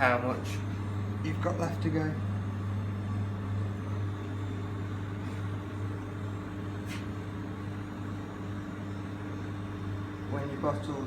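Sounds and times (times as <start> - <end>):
vending machine humming: 0.0 - 11.0.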